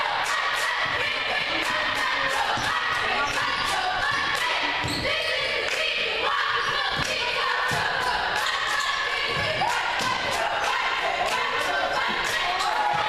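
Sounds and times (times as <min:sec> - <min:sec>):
people talking and calling out: 0:00.0 - 0:13.0.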